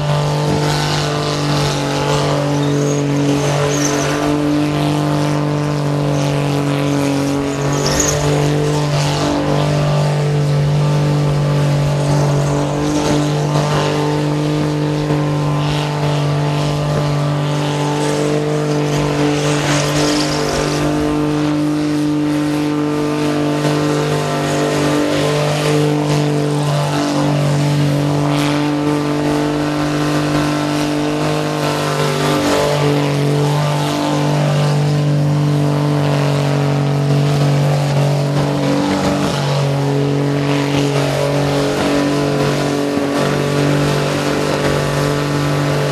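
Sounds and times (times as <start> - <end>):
car engine at high revs: 0.0 - 45.9.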